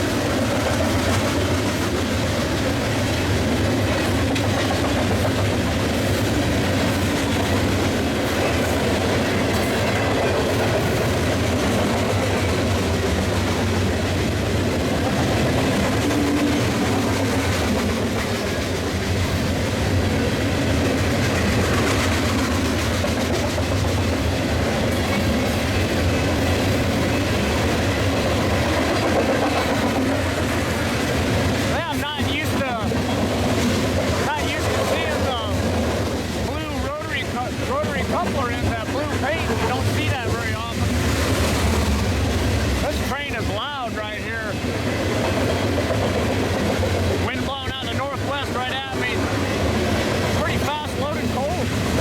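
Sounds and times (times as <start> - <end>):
train wheels clattering over rails: 0.0 - 52.0.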